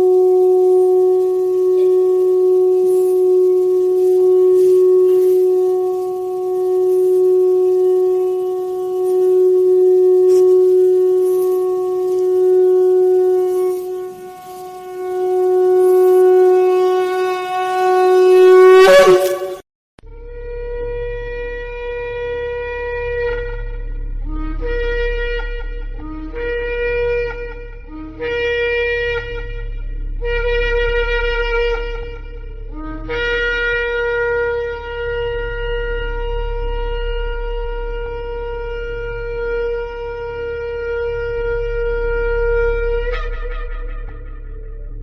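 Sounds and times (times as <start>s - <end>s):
shofar blasts: 0.0s - 45.0s.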